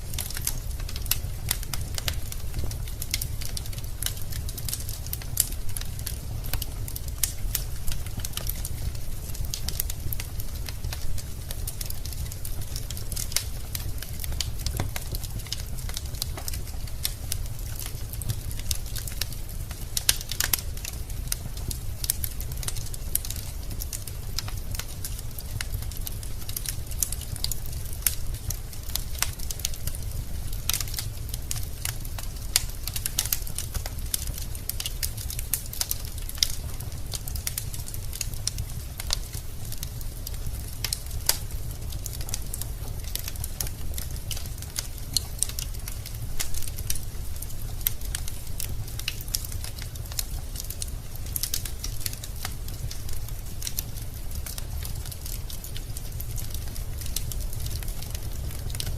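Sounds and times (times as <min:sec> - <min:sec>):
logs crackling in a fireplace: 0:00.0 - 0:58.9.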